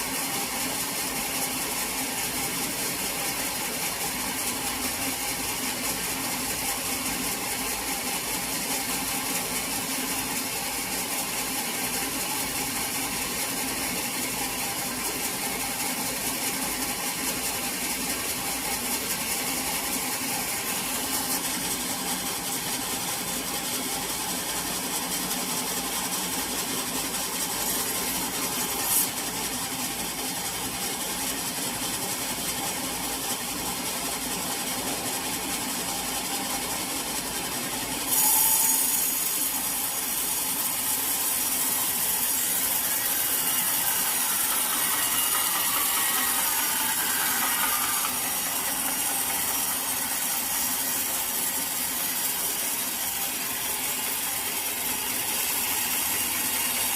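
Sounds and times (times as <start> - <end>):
saw cutting through log: 0.0 - 56.9.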